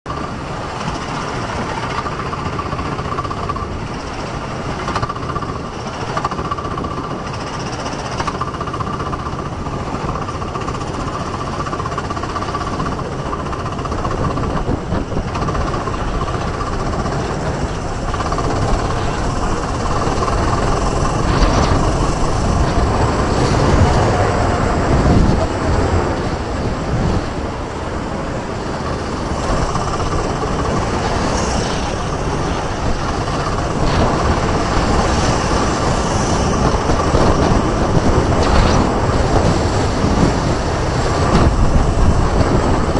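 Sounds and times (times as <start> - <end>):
go-kart engine running: 0.1 - 42.9.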